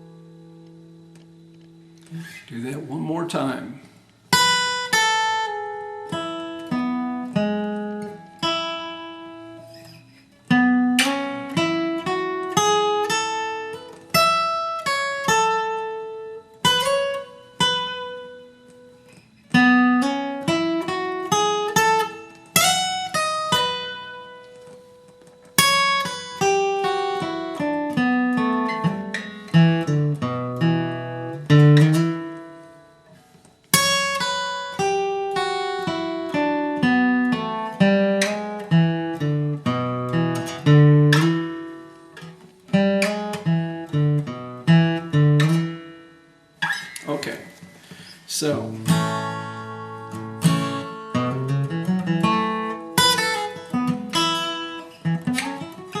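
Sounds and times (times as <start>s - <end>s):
acoustic guitar picking single notes: 0.0s - 56.0s.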